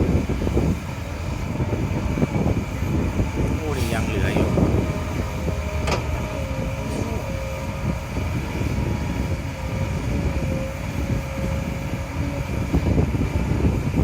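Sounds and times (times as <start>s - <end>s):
excavator diesel engine running: 0.0s - 14.0s
thin steady whine: 0.0s - 14.0s.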